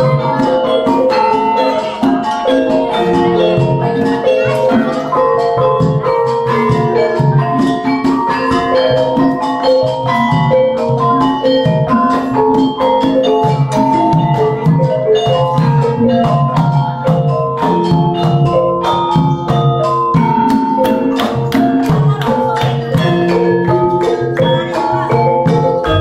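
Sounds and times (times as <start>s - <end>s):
gamelan metallophones and gongs: 0.0s - 26.0s.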